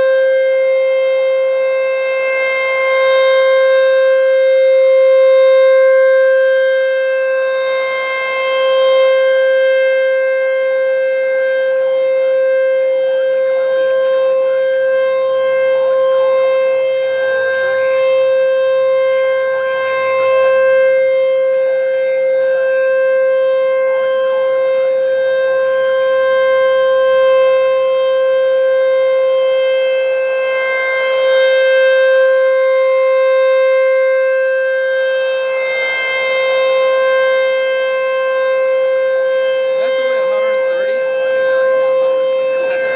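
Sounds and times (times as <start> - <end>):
warning siren steady tone: 0.0 - 42.9.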